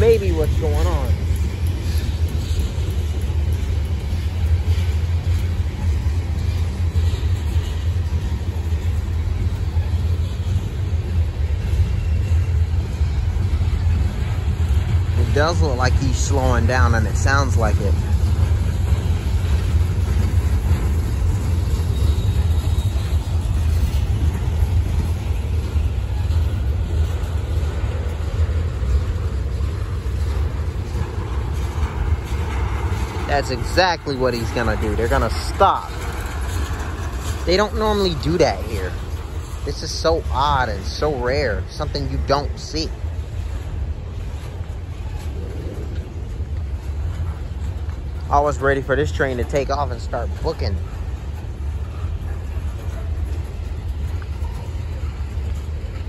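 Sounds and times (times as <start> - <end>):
freight train cars rumbling past: 0.0 - 56.0.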